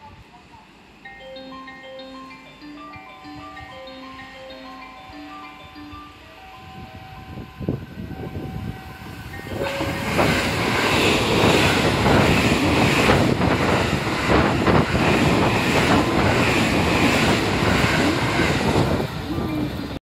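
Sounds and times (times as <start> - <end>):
train rushing past: 0.7 - 20.0.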